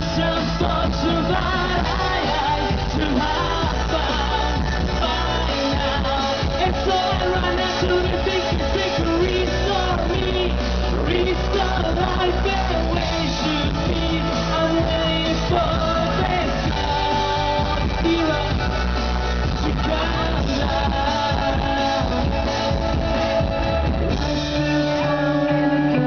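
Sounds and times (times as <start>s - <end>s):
lead singer singing: 0.0s - 26.0s
rock band playing: 0.0s - 26.0s.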